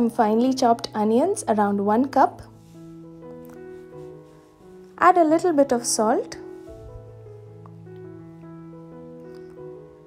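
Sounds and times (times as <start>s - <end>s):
slow held-note background music: 0.0s - 10.0s.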